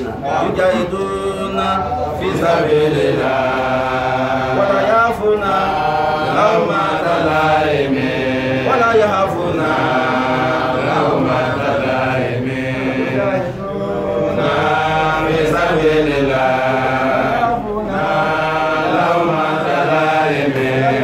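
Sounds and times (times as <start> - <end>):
man chanting religious recitation: 0.0 - 21.0.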